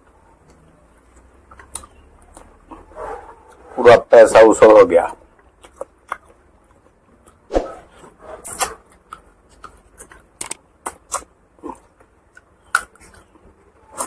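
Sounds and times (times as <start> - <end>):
man chewing: 0.0 - 3.7, 5.3 - 14.0.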